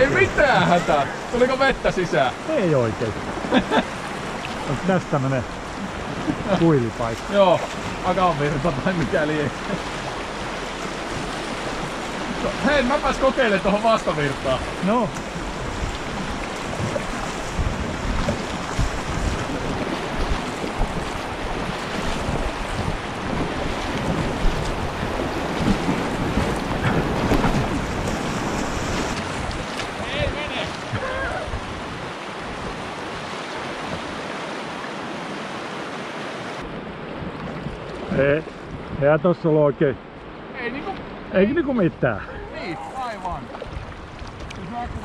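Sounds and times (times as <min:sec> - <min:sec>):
wind buffeting microphone: 0:00.0 - 0:35.2, 0:36.5 - 0:39.2, 0:42.2 - 0:45.0
whitewater rushing: 0:00.0 - 0:45.0.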